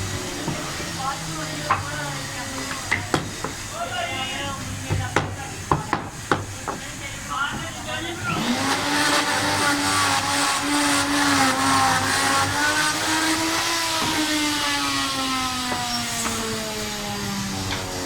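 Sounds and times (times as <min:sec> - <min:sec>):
machine motor humming: 0:00.0 - 0:18.0.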